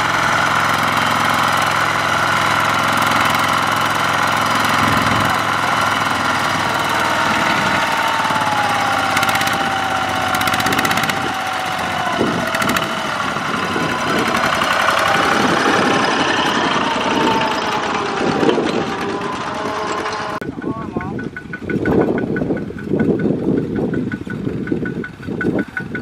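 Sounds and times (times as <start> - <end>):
diesel tractor engine under load: 0.0 - 26.0.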